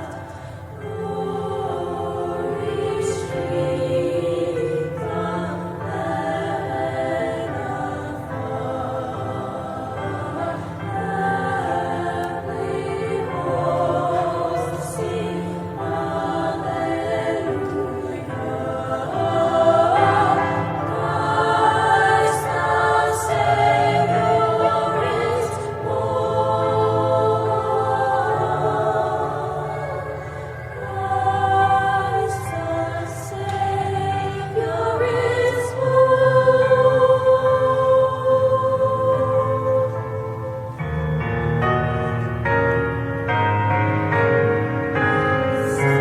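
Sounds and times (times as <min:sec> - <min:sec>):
choir singing in parts: 0:00.0 - 0:46.0.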